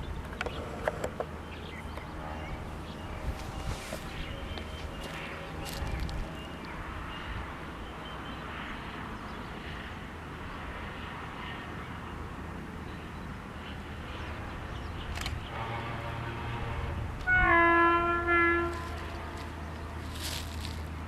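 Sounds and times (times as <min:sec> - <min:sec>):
distant train rumble: 0:00.0 - 0:21.0.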